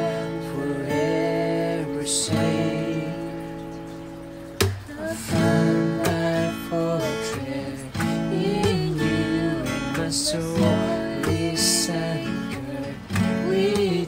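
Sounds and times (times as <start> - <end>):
acoustic guitar fingerpicked arpeggios: 0.0 - 14.0.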